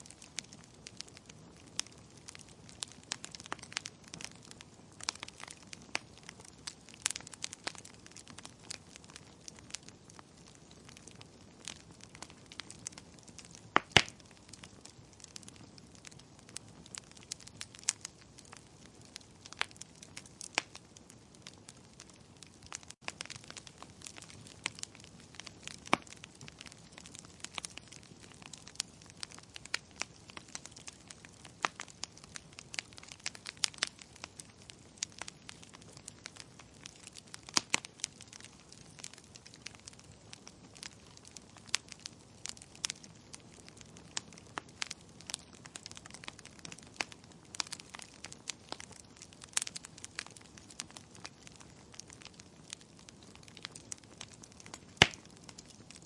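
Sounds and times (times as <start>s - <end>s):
burning logs crackling and popping: 0.0s - 56.0s.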